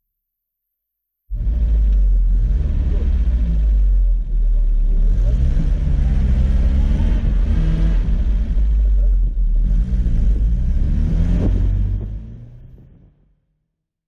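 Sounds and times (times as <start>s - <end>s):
car engine pulling under load: 1.3s - 13.1s.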